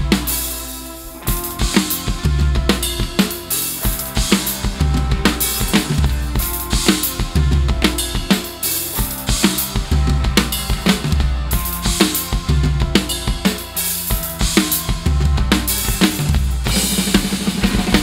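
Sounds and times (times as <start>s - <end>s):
backing track with bass and guitars: 0.0s - 18.0s
rock drum kit playing: 0.0s - 18.0s.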